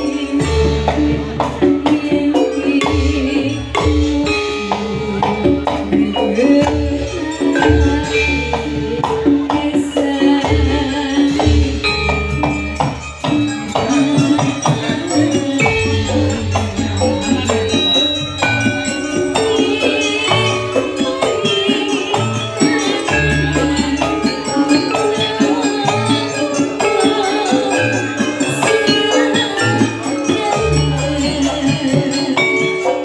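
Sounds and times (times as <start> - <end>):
metallophones struck with mallets: 0.0 - 33.0.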